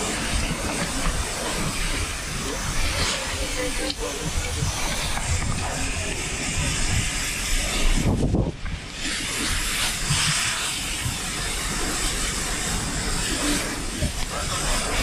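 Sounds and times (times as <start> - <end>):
fire hose spraying water: 0.0 - 15.0.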